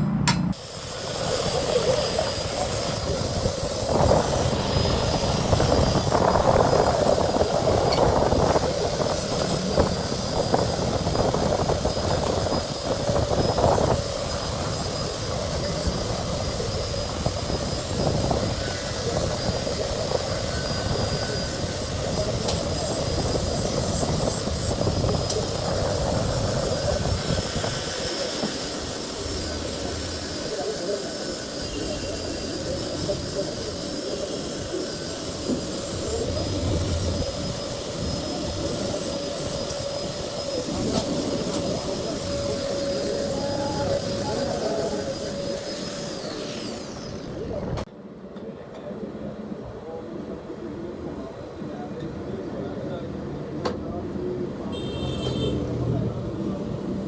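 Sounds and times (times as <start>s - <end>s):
angle grinder grinding steel: 0.3s - 47.6s.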